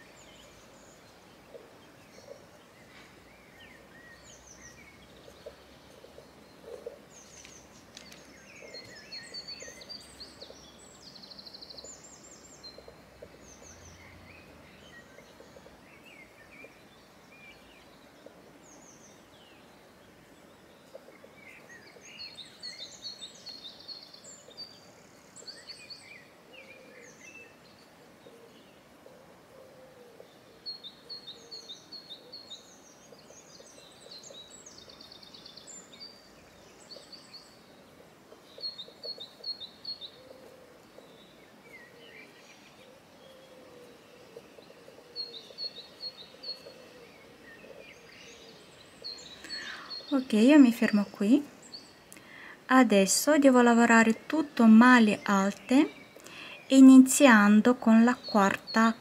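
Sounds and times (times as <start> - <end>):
faint outdoor background hiss: 0.0 - 59.0
small songbirds chirping: 0.0 - 59.0.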